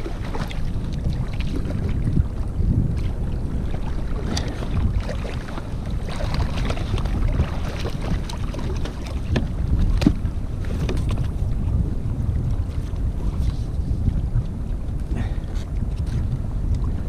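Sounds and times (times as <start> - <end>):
water lapping against kayak: 0.0 - 17.0
wind buffeting microphone: 0.0 - 17.0.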